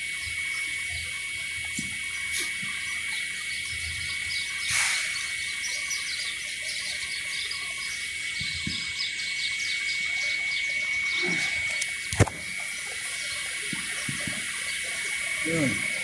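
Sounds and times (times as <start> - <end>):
high-pitched whine: 0.0 - 16.0
small birds chirping: 0.4 - 15.8.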